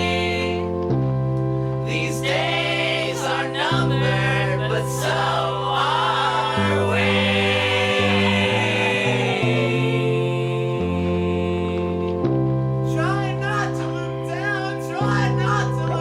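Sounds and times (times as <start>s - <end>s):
wordless singing: 0.0s - 1.1s, 1.8s - 16.0s
held chords over bass: 0.0s - 16.0s.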